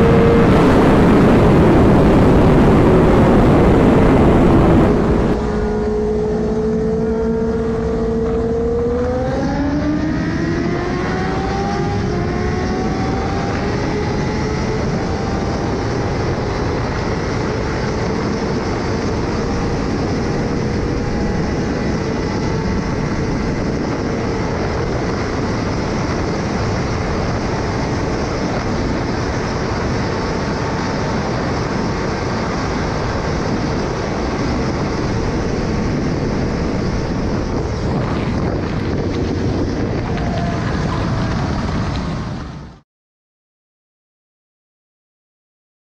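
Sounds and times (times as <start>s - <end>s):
loud wind rush: 0.0s - 42.8s
motorcycle engine at full speed: 0.0s - 42.8s.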